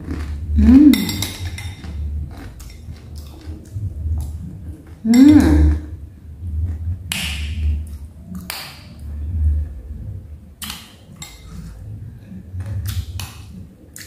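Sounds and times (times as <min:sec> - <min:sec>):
muffled chewing: 0:00.0 - 0:14.0.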